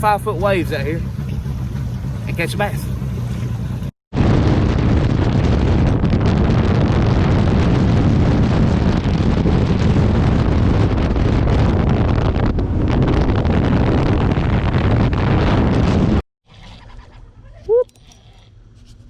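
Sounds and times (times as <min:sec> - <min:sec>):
wind buffeting microphone: 0:00.0 - 0:16.2.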